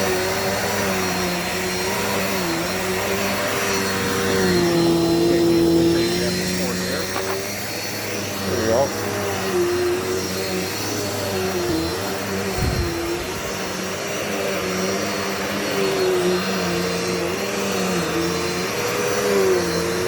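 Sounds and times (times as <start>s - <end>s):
vacuum cleaner motor hum: 0.0s - 20.0s.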